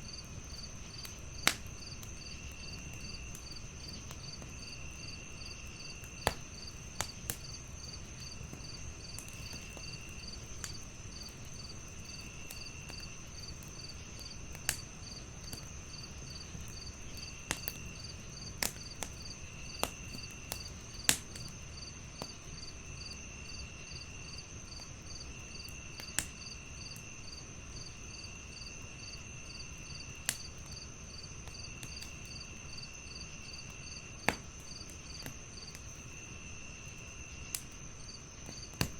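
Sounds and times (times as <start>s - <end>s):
wood fire crackling and popping: 0.0s - 27.2s, 27.8s - 38.9s
crickets trilling: 0.0s - 38.9s
pulsing cricket chirp: 0.0s - 38.9s.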